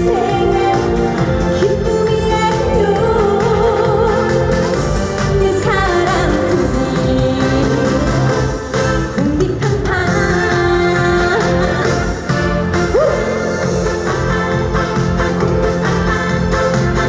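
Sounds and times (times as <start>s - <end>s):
amplified music with steady beat: 0.0s - 17.0s
woman singing: 0.0s - 17.0s.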